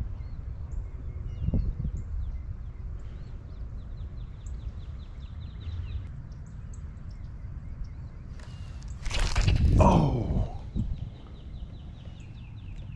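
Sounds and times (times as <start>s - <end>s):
small birds chirping: 0.0s - 12.9s
wind rumbling on microphone: 0.0s - 12.9s.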